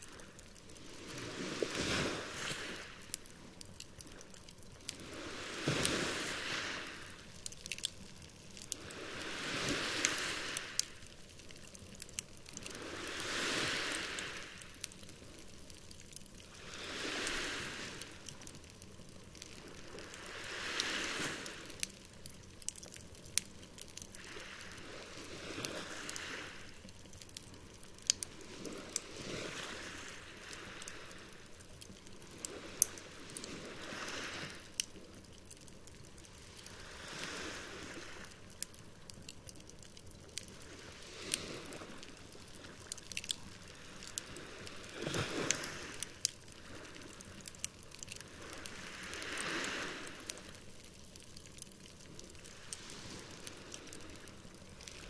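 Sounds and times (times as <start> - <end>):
campfire crackling and popping: 0.0 - 55.0
waves washing ashore: 0.0 - 55.0.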